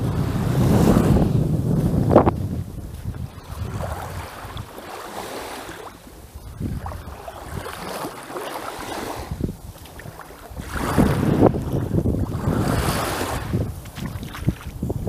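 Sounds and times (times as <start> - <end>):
small waves washing on shore: 0.0 - 15.0
wind on microphone: 0.0 - 15.0.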